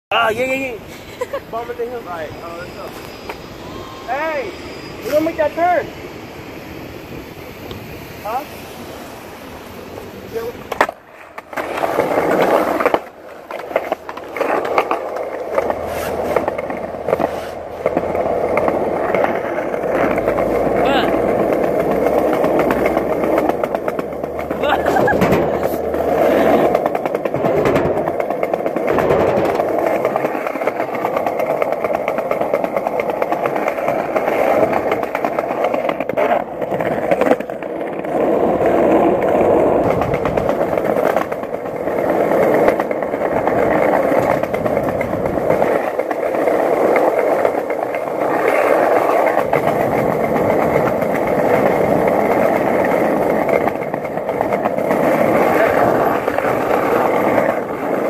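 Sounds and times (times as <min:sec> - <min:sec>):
skateboard wheels rolling on pavement: 0:00.1 - 0:58.0.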